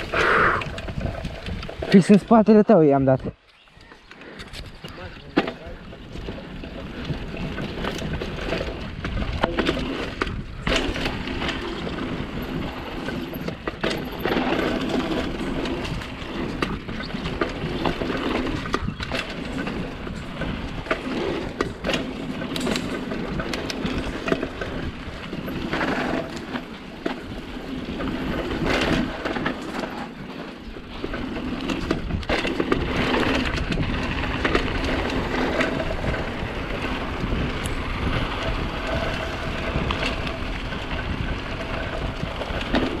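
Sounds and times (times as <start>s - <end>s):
bicycle tyres crunching: 0.0s - 43.0s
wind buffeting microphone: 0.0s - 43.0s
bike rattling knocks: 5.2s - 43.0s.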